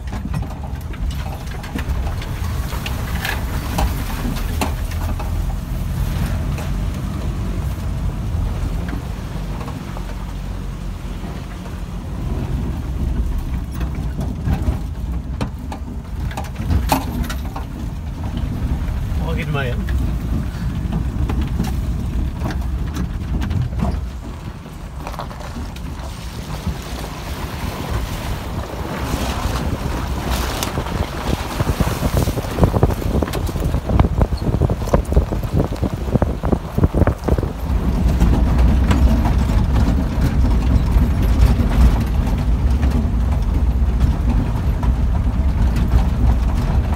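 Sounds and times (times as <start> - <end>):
body and suspension rattles: 0.0 - 46.9
vehicle engine and road rumble: 0.0 - 46.9.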